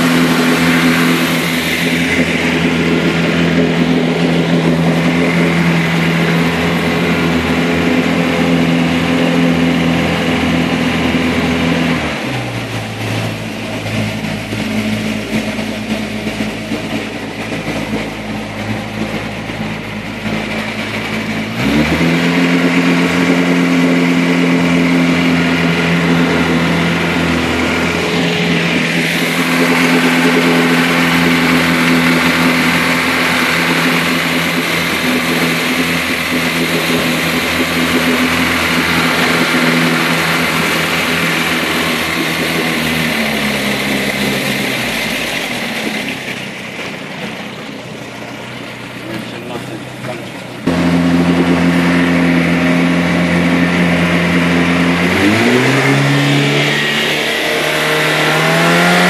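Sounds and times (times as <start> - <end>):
motorboat engine: 0.0 - 59.0
water churning past hull: 0.0 - 59.0.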